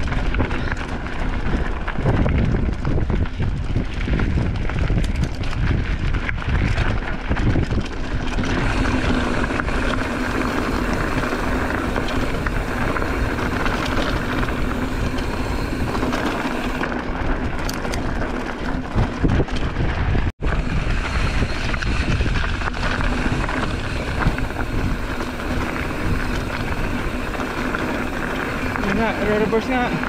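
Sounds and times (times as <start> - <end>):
bike tyre rumble on dirt: 0.0 - 30.0
wind over microphone: 0.0 - 30.0.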